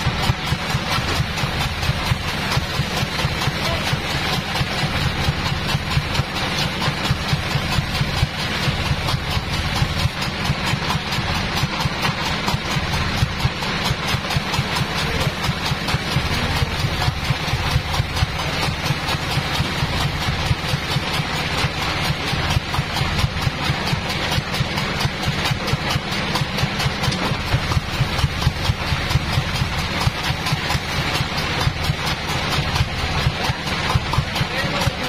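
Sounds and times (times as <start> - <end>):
sawmill engine idling: 0.0 - 35.0.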